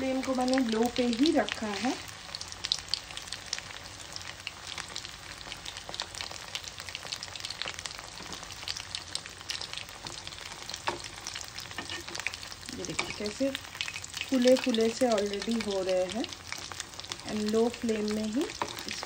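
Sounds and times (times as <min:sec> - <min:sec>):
food deep-frying in hot oil: 0:00.0 - 0:19.0.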